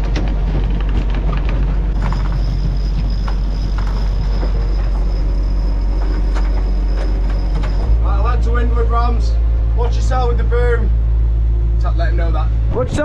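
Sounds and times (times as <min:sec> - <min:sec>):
faint high whine: 0:01.9 - 0:12.5.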